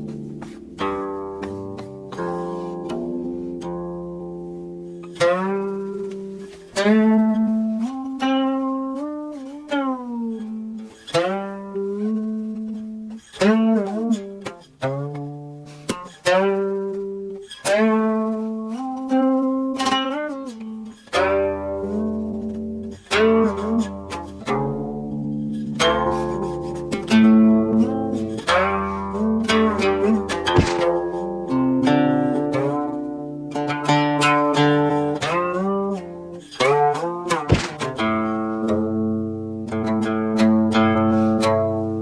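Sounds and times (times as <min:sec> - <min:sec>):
plucked string instrument melody: 0:00.0 - 0:42.0.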